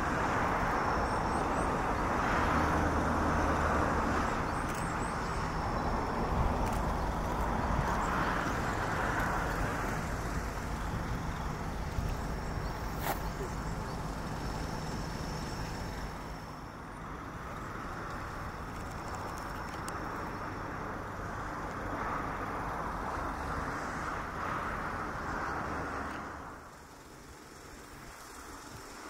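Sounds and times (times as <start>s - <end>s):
outdoor rushing noise: 0.0s - 29.0s.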